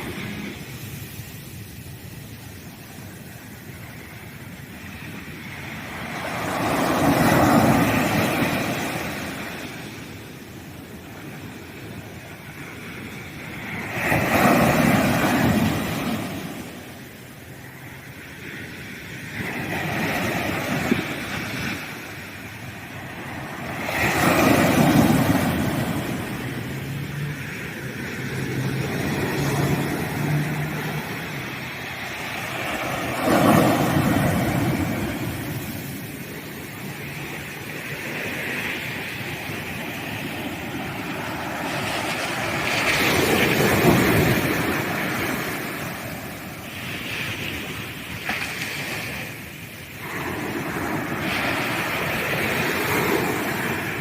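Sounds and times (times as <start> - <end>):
ocean waves breaking: 0.0 - 54.0
surf washing on beach: 0.0 - 54.0.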